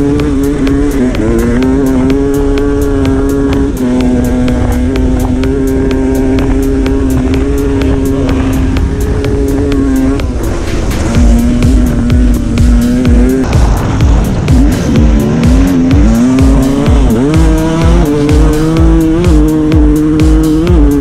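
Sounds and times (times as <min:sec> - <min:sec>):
dirt bike engine revving high: 0:00.0 - 0:21.0.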